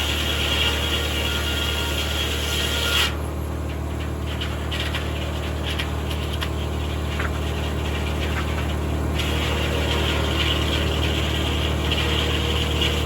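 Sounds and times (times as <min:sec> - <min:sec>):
sawmill engine hum: 0:00.0 - 0:13.0.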